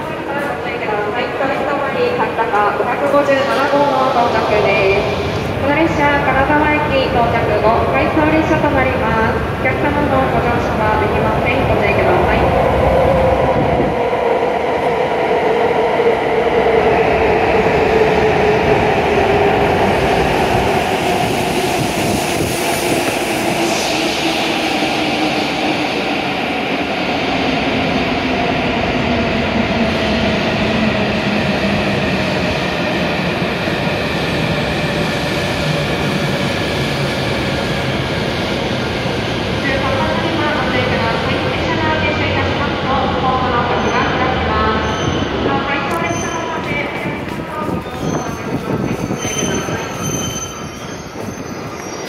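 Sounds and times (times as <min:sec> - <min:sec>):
train cars rumbling: 0:02.1 - 0:52.0.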